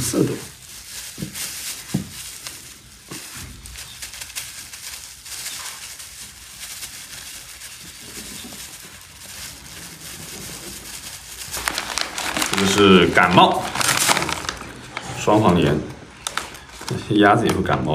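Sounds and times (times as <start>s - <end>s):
plastic bag crinkling: 0.0s - 17.9s.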